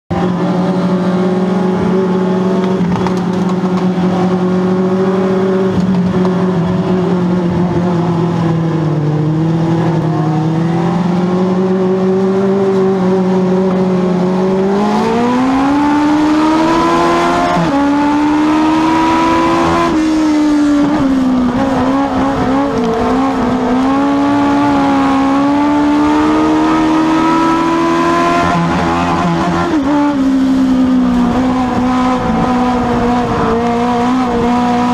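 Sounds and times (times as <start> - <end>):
race car engine revving: 0.1 - 34.9.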